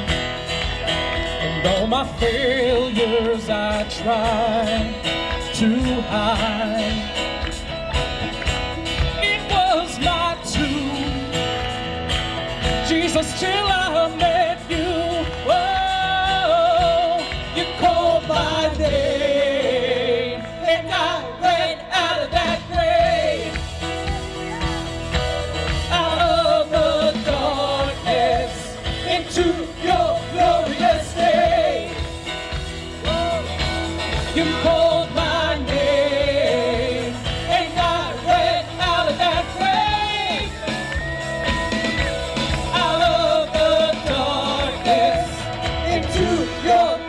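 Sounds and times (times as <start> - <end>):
steady drum beat: 0.0 - 47.0
worship band playing: 0.0 - 47.0
person singing: 1.4 - 11.6, 12.7 - 25.0, 25.8 - 32.1, 33.0 - 47.0.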